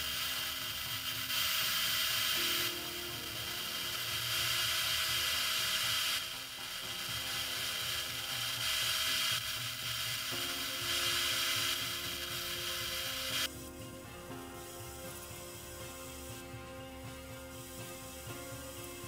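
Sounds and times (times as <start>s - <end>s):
welding arc buzzing hiss: 0.0s - 19.0s.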